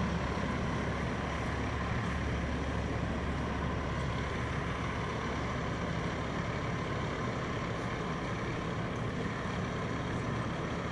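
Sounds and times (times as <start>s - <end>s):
diesel truck engine running: 0.0s - 10.9s.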